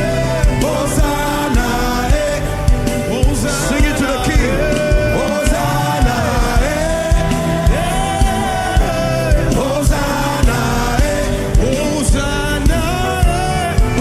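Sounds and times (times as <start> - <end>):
band with kick drum beat: 0.0 - 14.0
voices singing worship music: 0.0 - 14.0.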